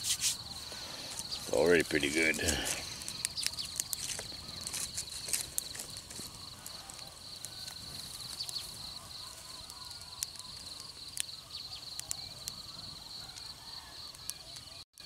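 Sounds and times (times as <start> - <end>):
insect trilling: 0.0 - 15.0
outdoor ambience: 0.0 - 15.0.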